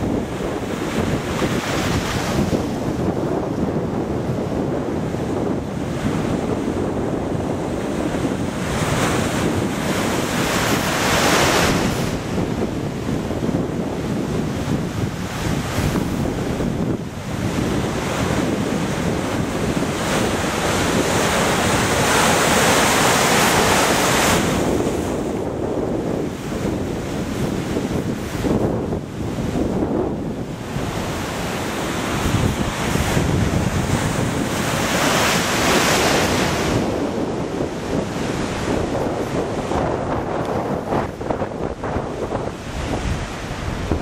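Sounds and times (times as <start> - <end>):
sea waves breaking against wall: 0.0 - 44.0
wind buffeting microphone: 0.0 - 44.0.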